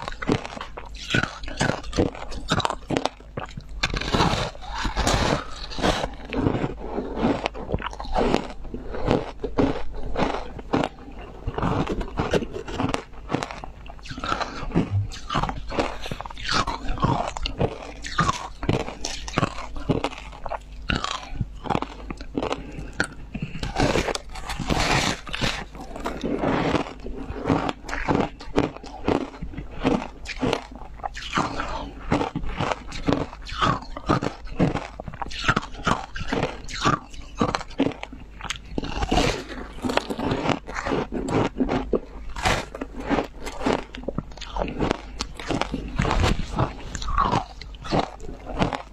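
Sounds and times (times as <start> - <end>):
crunching and chewing ice: 0.0 - 48.9.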